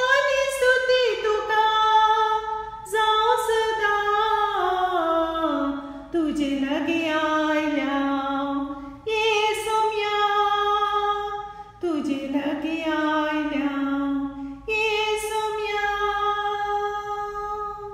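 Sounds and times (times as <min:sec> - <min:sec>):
woman singing unaccompanied: 0:00.0 - 0:17.9.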